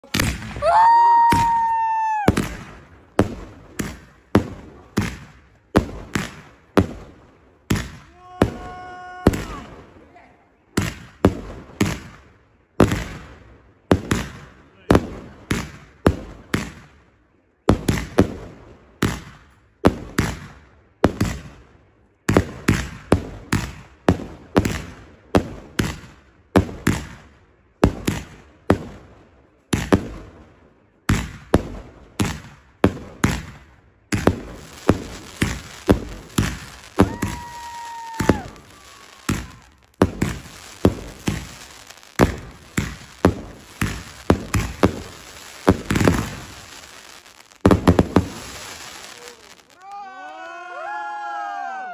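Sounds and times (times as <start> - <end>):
fireworks bangs: 0.0 - 17.0, 17.6 - 50.1.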